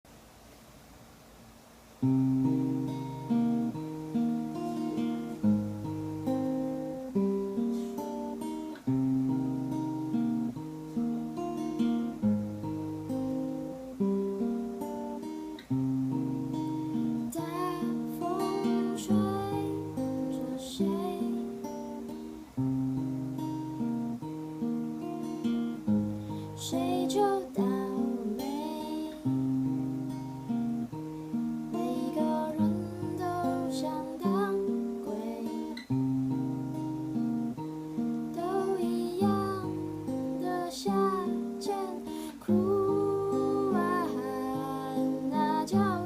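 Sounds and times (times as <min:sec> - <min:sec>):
solo acoustic guitar: 0:00.3 - 0:46.0.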